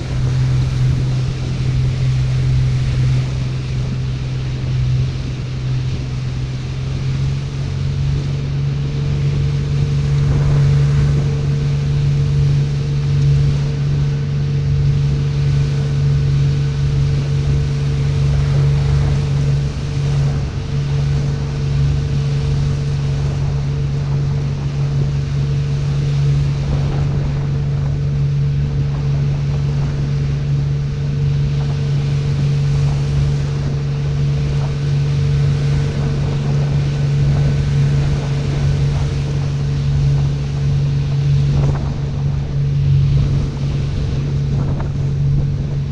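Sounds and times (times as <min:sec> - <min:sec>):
motorboat engine running: 0:00.0 - 0:45.9
water rushing past hull: 0:00.0 - 0:45.9
wind buffeting microphone: 0:00.0 - 0:45.9.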